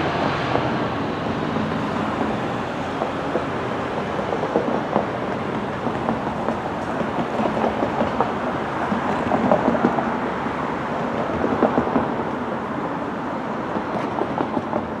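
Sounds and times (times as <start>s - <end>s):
diesel train rumbling on track: 0.0s - 15.0s.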